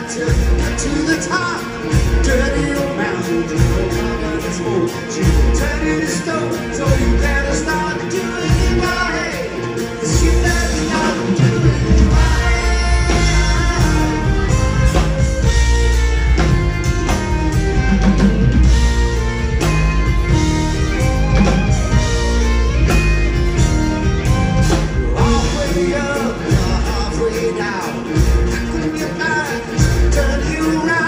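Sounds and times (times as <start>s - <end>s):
electric guitar: 0.0s - 31.0s
live rock band: 0.0s - 31.0s.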